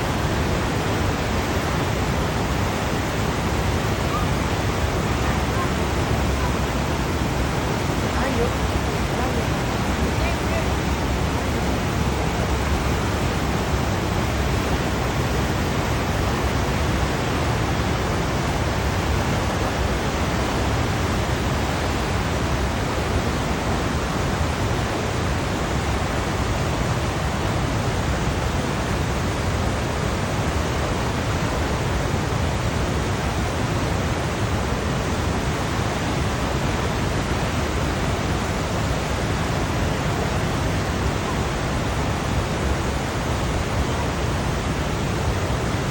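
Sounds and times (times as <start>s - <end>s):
ocean surf rushing: 0.0s - 45.9s.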